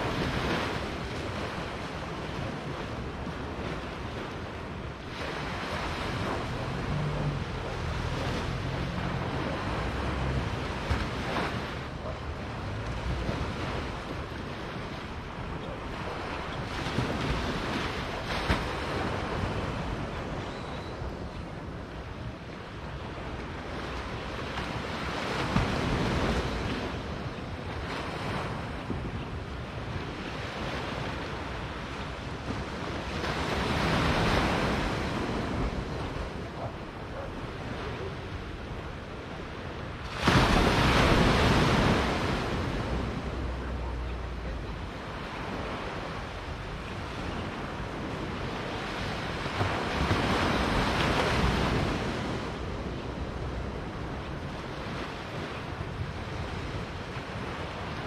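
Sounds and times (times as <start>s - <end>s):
waves washing up beach: 0.0s - 58.0s
wind rumble on microphone: 0.0s - 58.0s.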